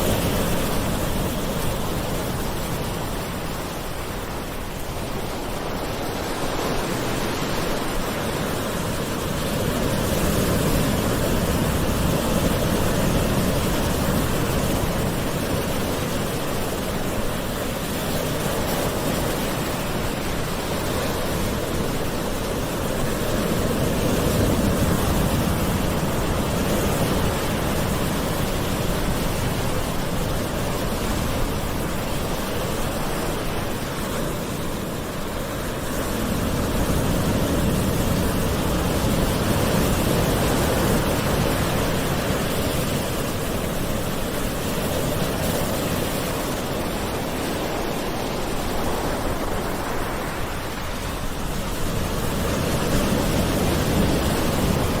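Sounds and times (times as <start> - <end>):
ocean surf washing: 0.0 - 55.0.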